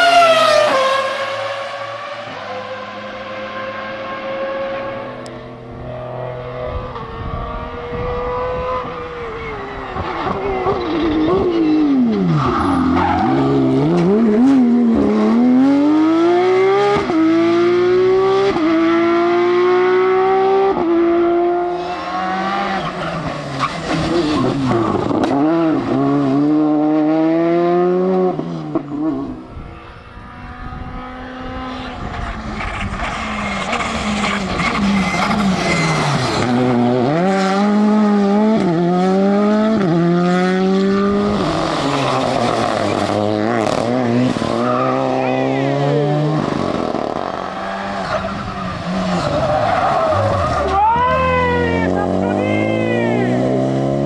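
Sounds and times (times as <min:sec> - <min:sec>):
rally car engines at full throttle: 0:00.0 - 0:54.0.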